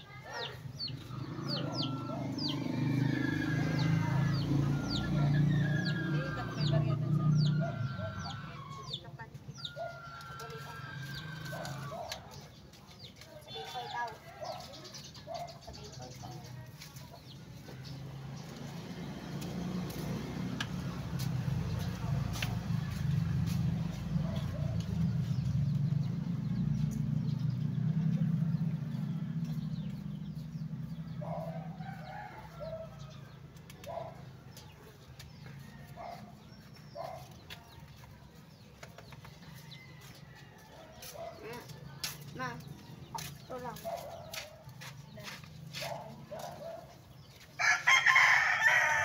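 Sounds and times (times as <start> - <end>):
chickens clucking: 0.1 - 47.6.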